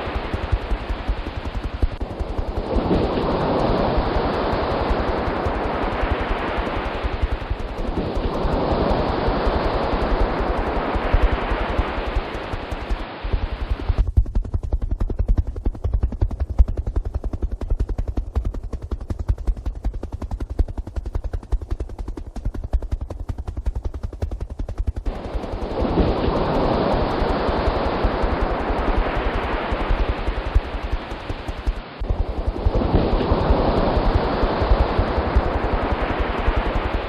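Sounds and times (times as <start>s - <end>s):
helicopter rotor chopping: 0.0s - 37.0s
loud rush of wind noise: 0.0s - 37.0s.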